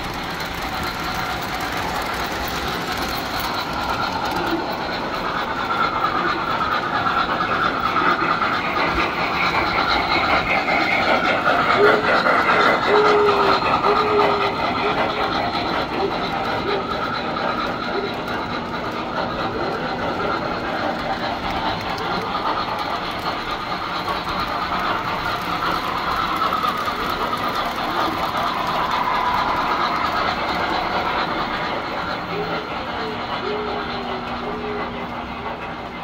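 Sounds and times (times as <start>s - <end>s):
toy train wheels rolling on rails: 0.0s - 36.0s.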